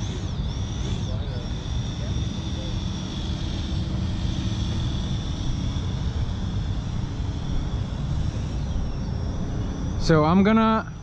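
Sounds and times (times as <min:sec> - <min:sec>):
drone propellers whirring: 0:00.0 - 0:11.0.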